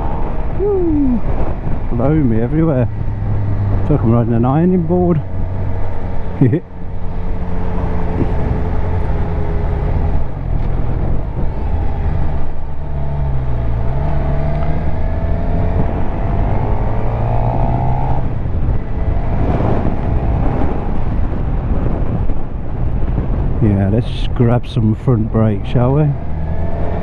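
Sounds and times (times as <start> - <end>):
motorcycle engine accelerating: 0.0 - 23.6, 25.6 - 27.0
wind rush on microphone: 0.0 - 27.0.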